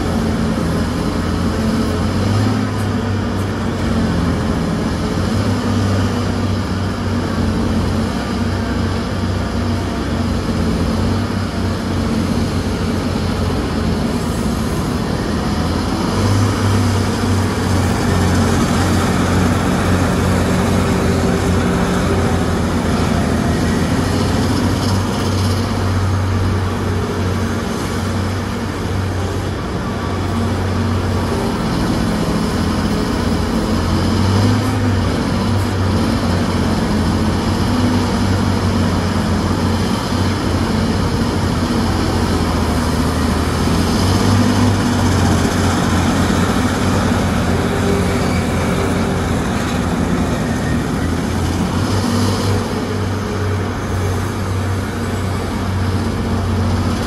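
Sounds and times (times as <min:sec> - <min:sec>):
heavy machine engine droning: 0:00.0 - 0:57.0.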